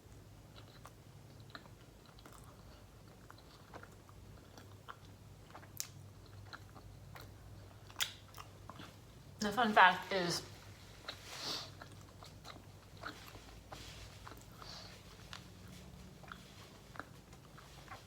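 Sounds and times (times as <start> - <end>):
person chewing food: 0.0 - 9.4, 10.6 - 18.0
low steady hum: 0.0 - 18.0.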